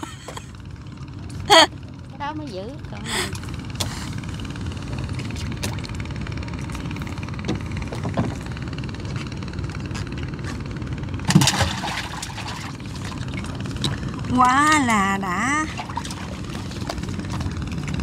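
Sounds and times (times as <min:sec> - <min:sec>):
boat motor rumbling: 0:00.0 - 0:18.0.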